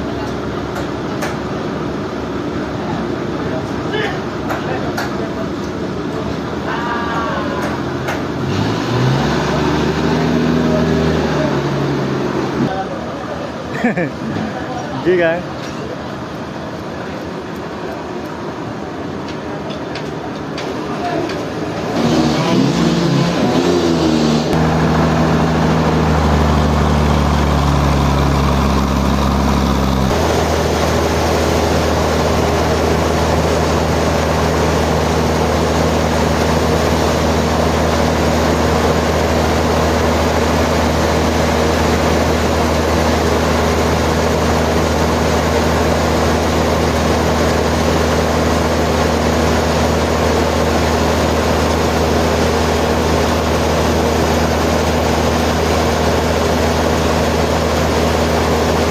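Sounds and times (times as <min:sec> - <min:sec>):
sawmill machinery engine drone: 0:00.0 - 0:58.9.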